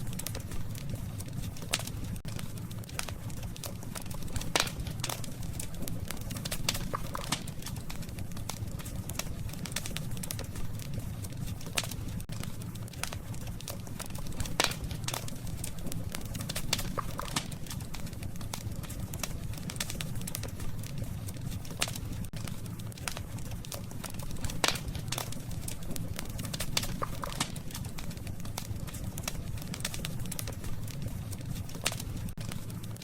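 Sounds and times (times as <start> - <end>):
campfire crackling and popping: 0.0 - 33.0
low fire rumble: 0.0 - 33.0.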